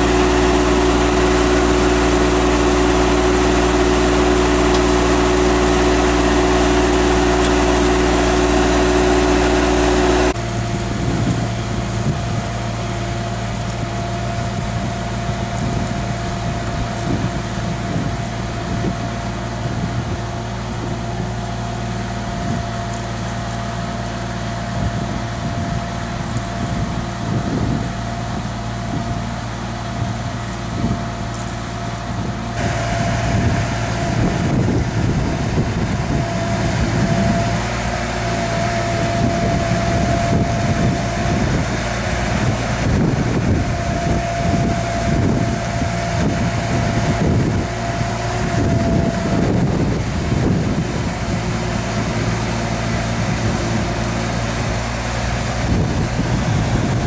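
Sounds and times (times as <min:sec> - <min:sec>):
machine engine running: 0:00.0 - 0:57.0
steady high whine: 0:00.0 - 0:57.0.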